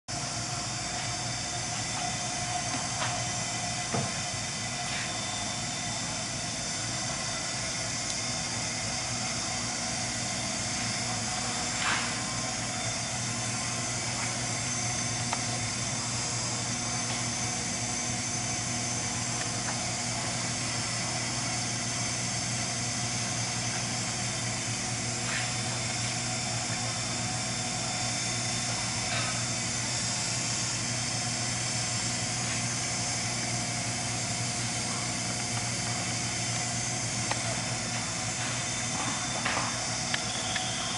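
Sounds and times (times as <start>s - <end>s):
furnace hissing: 0.1s - 40.9s
low machine hum: 0.1s - 40.9s.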